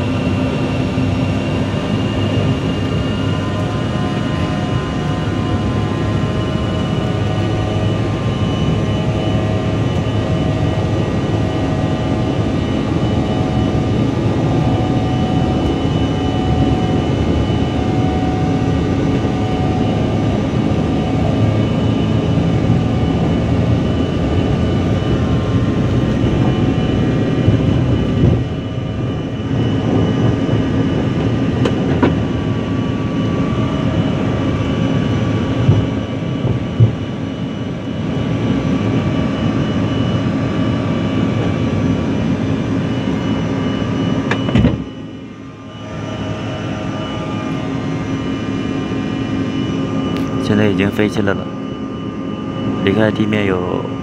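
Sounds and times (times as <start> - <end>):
jet engines roaring in cabin: 0.0 - 54.0.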